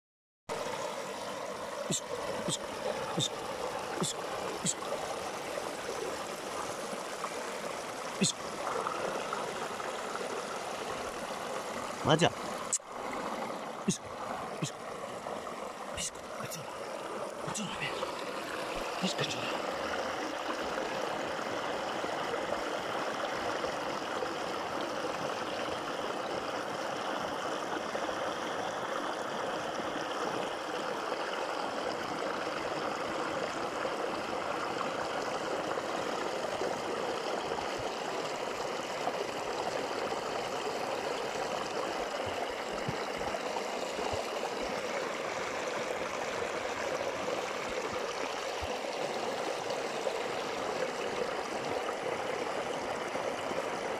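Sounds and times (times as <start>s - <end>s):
stream water spilling over rocks: 0.5s - 53.9s.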